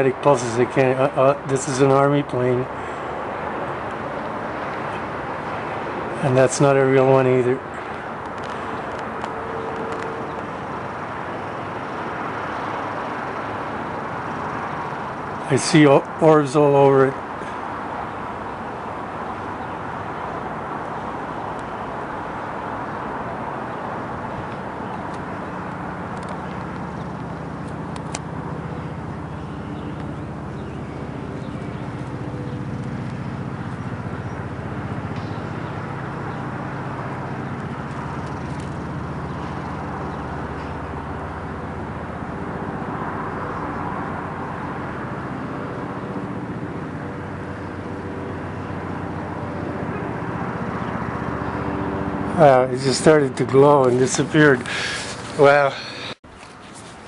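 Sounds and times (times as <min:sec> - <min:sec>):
distant engine drone: 0:00.0 - 0:57.0.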